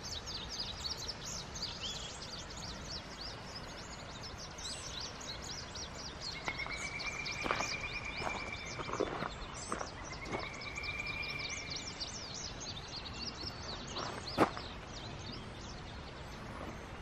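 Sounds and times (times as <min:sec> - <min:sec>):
birds chirping and singing: 0:00.0 - 0:17.0.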